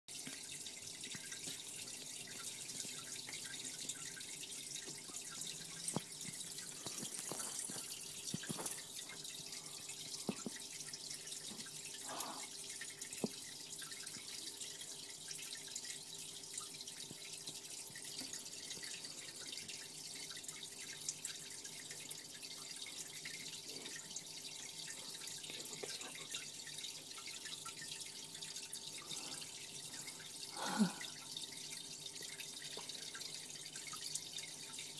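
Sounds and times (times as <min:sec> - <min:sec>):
water trickling and dripping: 0:00.1 - 0:34.9.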